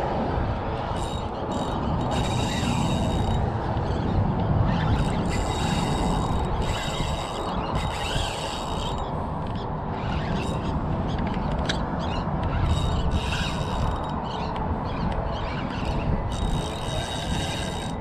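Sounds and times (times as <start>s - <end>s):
fishing reel gears whirring: 0.6s - 18.0s.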